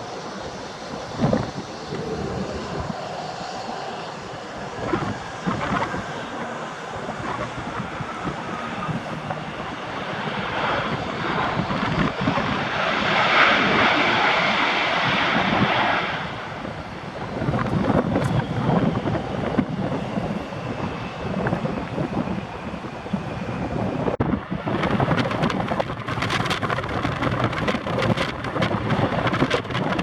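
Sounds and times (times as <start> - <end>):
jet engines rushing: 0.0 - 30.0
wind buffeting microphone: 0.0 - 30.0.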